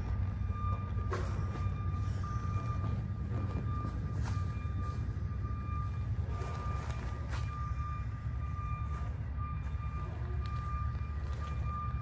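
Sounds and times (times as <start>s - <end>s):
faint high-pitched beep: 0.4s - 12.0s.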